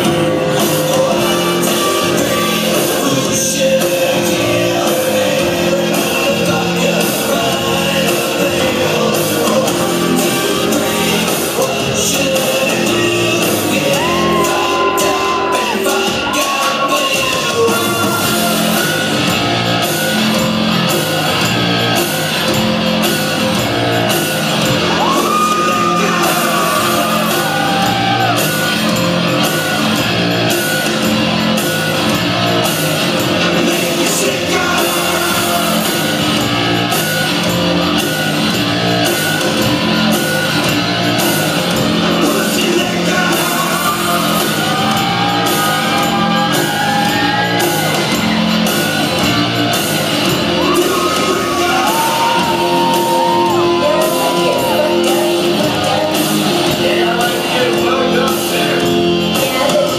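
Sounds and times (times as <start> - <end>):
loud rock music: 0.0 - 59.9
person singing: 0.0 - 59.9.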